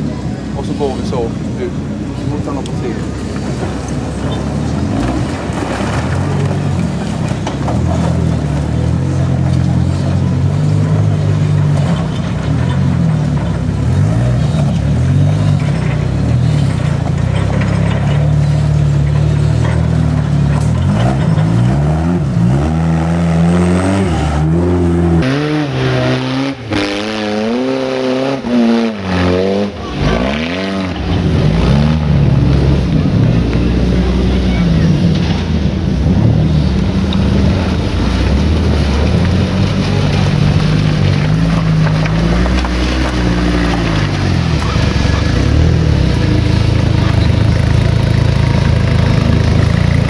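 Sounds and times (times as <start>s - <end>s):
buggy engine revving: 0.0s - 50.0s.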